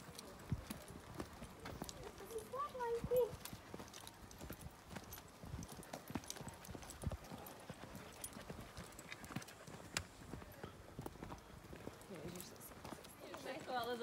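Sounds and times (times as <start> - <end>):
footsteps on a trail: 0.0 - 14.0.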